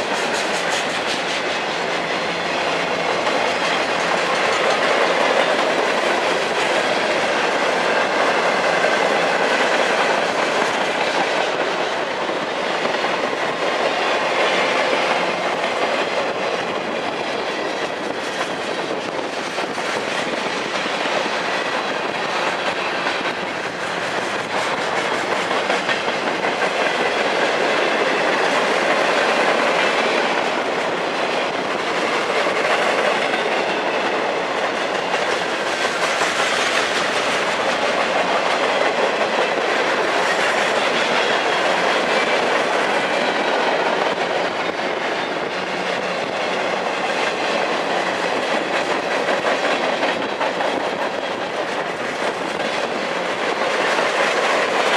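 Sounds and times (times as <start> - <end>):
train wheels rolling on rails: 0.0 - 54.9.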